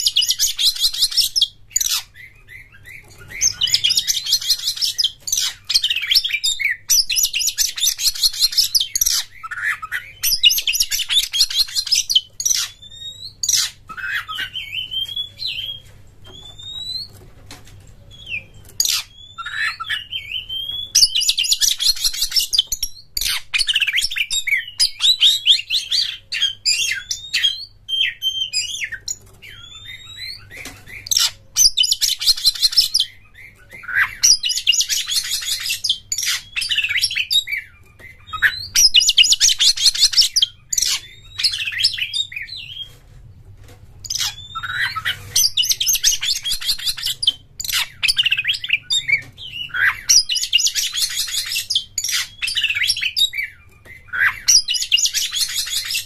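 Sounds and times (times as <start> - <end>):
songbird singing: 0.0 - 17.2, 17.8 - 42.9, 44.0 - 56.0.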